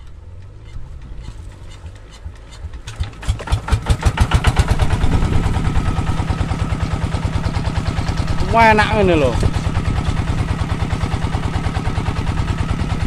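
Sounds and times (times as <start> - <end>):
diesel engine starting and running: 0.0 - 13.0.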